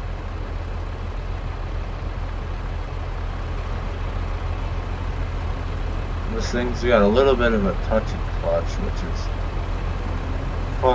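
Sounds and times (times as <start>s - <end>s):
tractor diesel engine drone: 0.0s - 10.9s.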